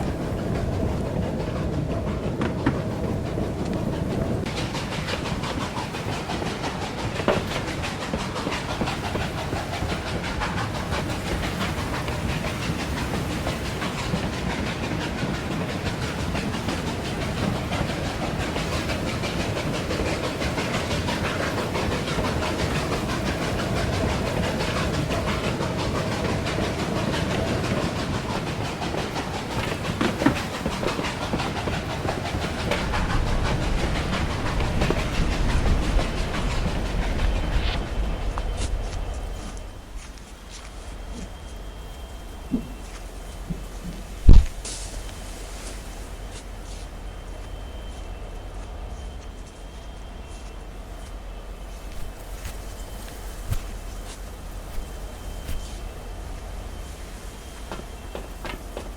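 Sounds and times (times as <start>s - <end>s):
steam locomotive rumble and clatter: 0.0s - 58.9s.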